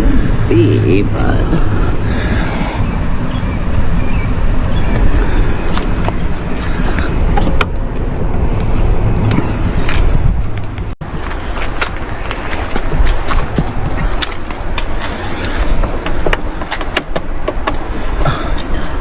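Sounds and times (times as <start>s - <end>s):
low rumble: 0.0s - 16.7s.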